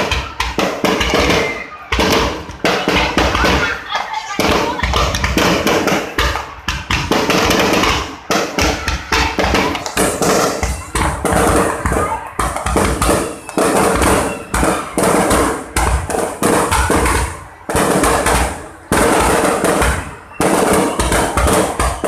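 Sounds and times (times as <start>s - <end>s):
crowd voices: 0.0s - 22.0s
fireworks bursting bangs: 0.0s - 22.0s.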